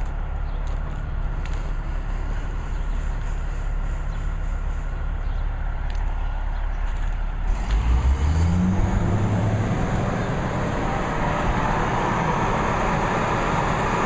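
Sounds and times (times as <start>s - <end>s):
excavator diesel engine revving: 0.0s - 14.0s.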